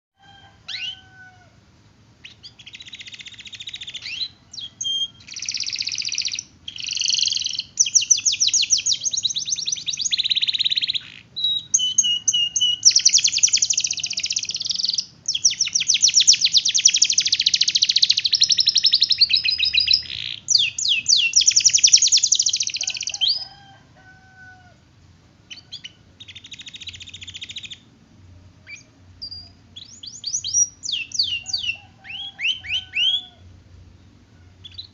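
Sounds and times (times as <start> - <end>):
canary singing trills: 0.2 - 1.5, 2.2 - 24.6, 25.4 - 34.9.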